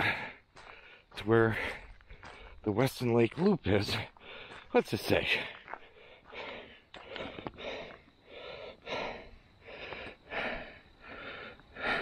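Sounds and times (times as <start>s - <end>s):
heavy breathing: 0.0s - 2.6s, 3.9s - 12.0s
footsteps on trail: 0.0s - 12.0s.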